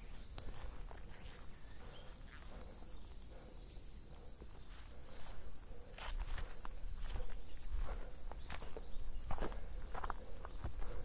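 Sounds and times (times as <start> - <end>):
footsteps on leafy dirt trail: 0.0 - 2.9, 4.3 - 11.0
crickets and insects trilling: 0.0 - 11.0.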